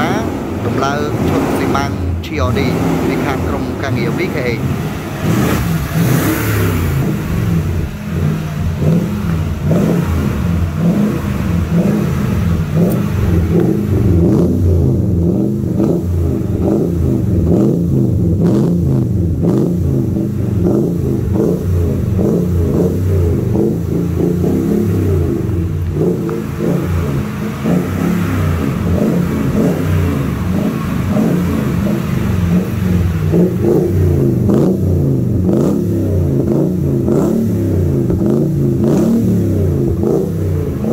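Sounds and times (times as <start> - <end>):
truck engine exhaust rumble: 0.0 - 40.9.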